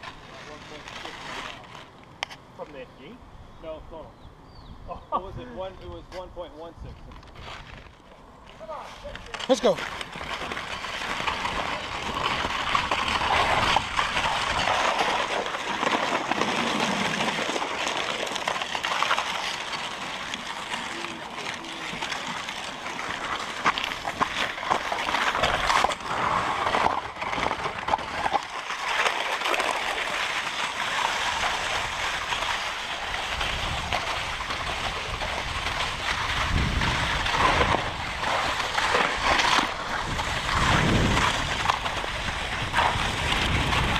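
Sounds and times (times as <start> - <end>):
sled runners scraping over slushy snow: 0.0 - 2.0, 7.2 - 43.9.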